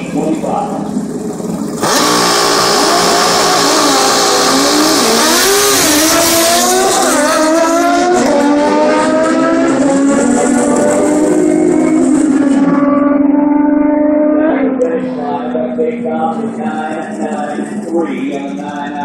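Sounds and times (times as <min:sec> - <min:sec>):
motorcycles at full throttle: 0:00.0 - 0:19.0.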